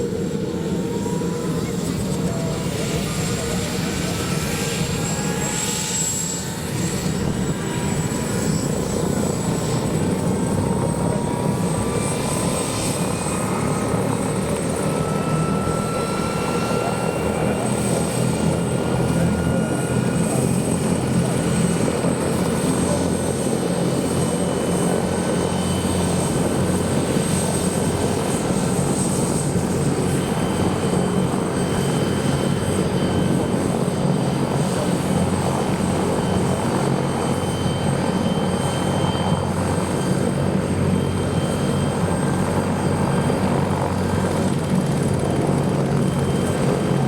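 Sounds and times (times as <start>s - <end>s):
helicopter drone: 0.0s - 47.0s.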